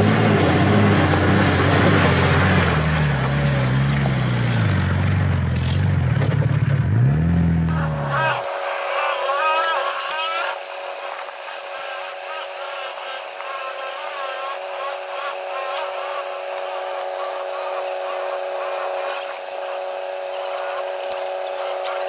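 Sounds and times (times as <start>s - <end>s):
steady mechanical whine: 0.0s - 22.0s.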